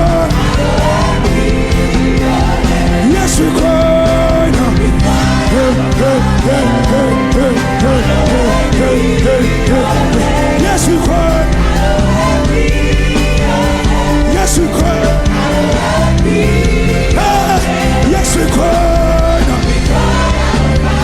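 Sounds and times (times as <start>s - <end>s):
band playing: 0.0s - 21.0s
people singing: 0.0s - 21.0s.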